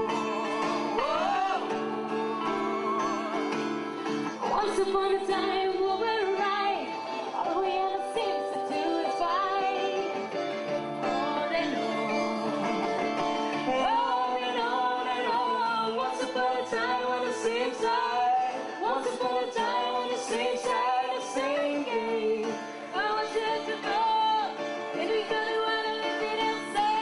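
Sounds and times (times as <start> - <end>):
male and female voices singing: 0.0 - 3.4, 4.4 - 27.0
electric guitar: 0.0 - 27.0.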